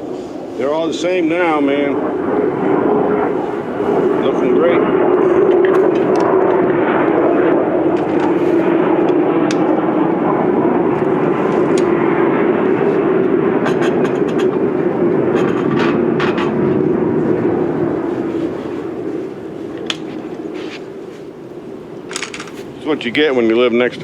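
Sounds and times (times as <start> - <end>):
military aircraft droning overhead: 0.0 - 24.0.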